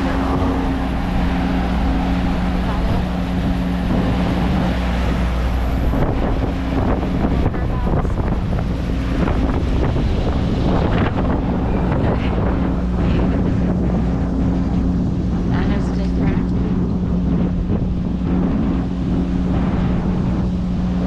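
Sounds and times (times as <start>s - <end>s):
constant low hum: 0.0s - 21.0s
strong wind buffeting microphone: 0.0s - 21.0s.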